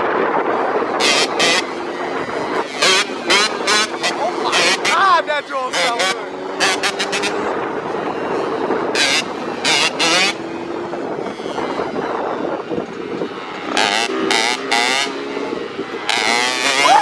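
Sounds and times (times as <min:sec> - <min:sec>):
two-stroke dirt bike engines revving: 0:00.0 - 0:17.0.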